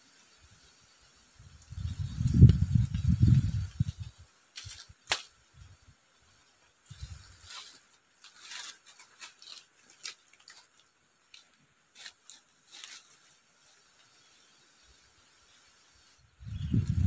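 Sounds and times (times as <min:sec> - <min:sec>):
dry grass and leaves rustling: 0:00.0 - 0:17.0
faint steady hiss: 0:00.0 - 0:17.0.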